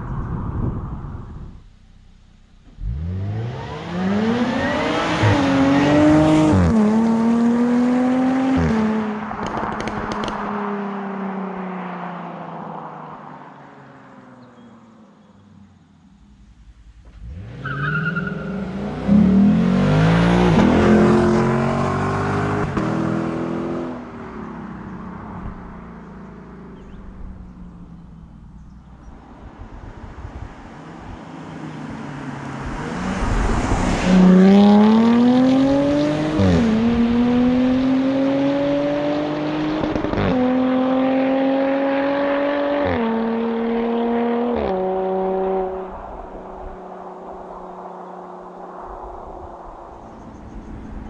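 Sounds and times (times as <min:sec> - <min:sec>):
sports car accelerating: 0:00.1 - 0:51.0.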